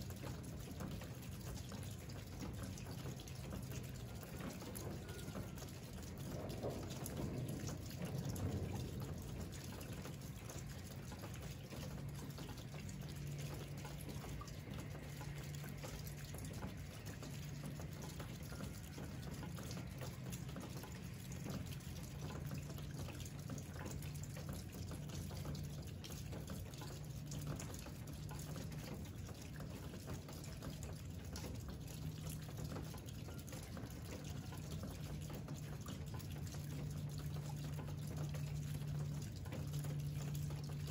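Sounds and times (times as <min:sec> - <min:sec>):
continuous low hum: 0:00.0 - 0:40.9
rain drops ticking: 0:00.0 - 0:40.9.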